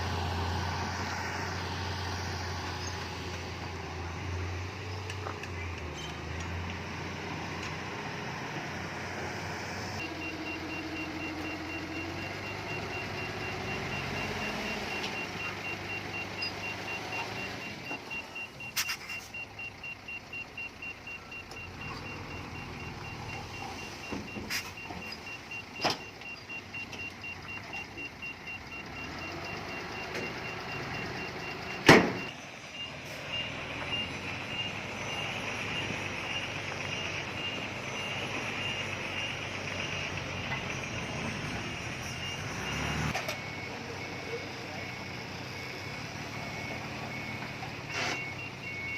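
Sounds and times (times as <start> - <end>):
heavy diesel engine under load: 0.0 - 48.9.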